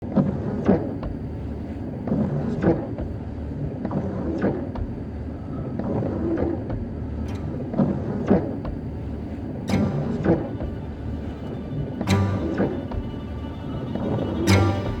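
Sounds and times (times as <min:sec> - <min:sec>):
low vehicle hum: 0:00.0 - 0:15.0
windscreen wipers knocking: 0:00.6 - 0:13.3.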